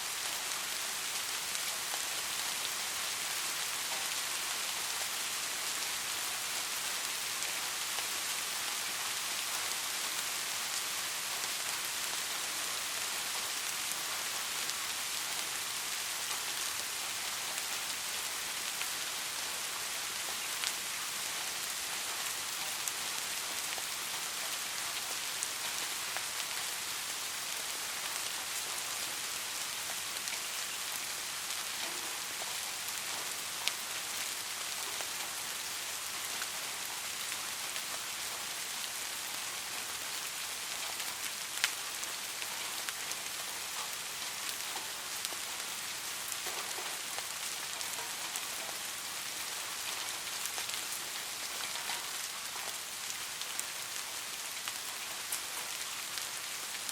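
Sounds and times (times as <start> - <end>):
rain falling on a street: 0.0 - 56.9.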